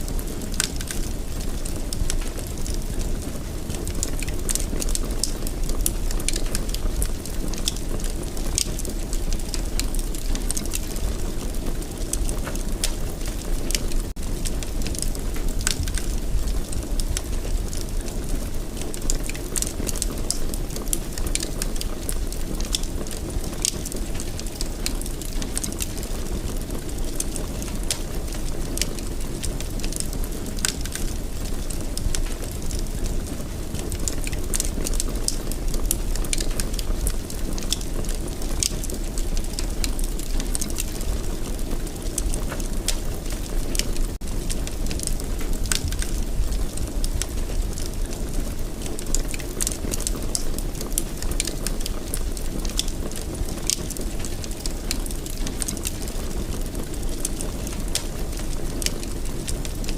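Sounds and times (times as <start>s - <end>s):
fire crackling and popping: 0.0s - 59.9s
fire flames rumbling: 0.0s - 59.9s.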